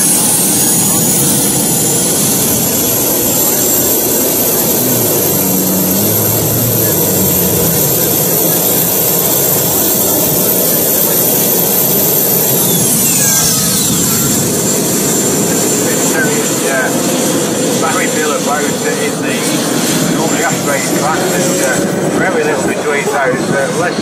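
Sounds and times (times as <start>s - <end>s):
turbine motorcycle engine whining: 0.0s - 24.0s.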